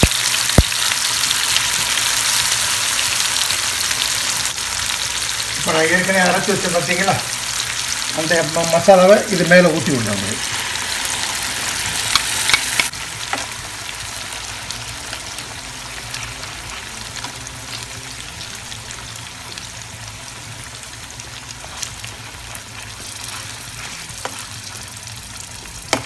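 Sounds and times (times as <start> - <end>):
fish sizzling in a pan: 0.0 - 26.0.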